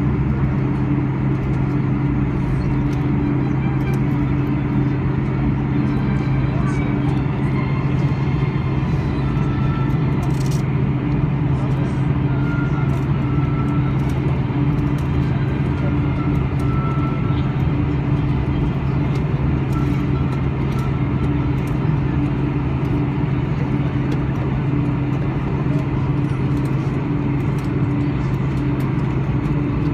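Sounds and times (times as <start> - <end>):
airplane cabin hum and rumble: 0.0 - 29.9.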